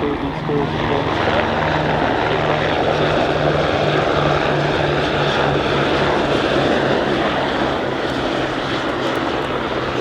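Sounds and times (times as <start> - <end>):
helicopter turbine and rotor: 0.0 - 10.0.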